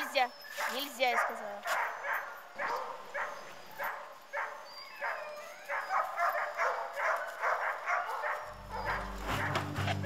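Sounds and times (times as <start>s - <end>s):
sled dogs barking and yapping: 0.0s - 10.0s.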